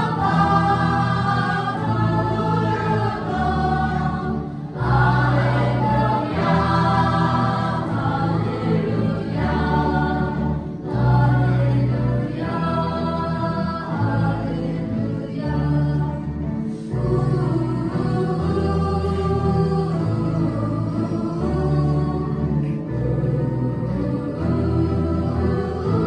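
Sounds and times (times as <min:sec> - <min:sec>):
choir singing: 0:00.0 - 0:26.0
keyboard: 0:00.0 - 0:26.0.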